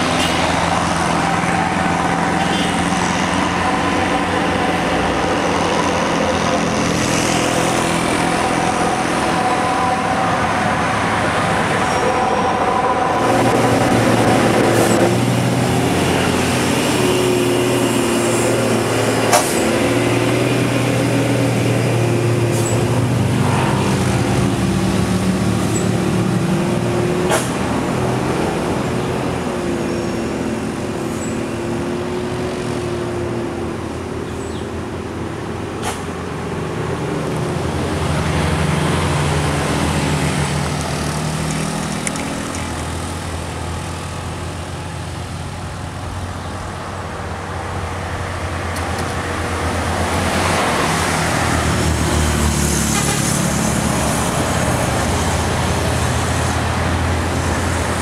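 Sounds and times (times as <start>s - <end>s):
motorcycles passing: 0.0s - 58.0s
truck diesel engines running: 0.0s - 58.0s.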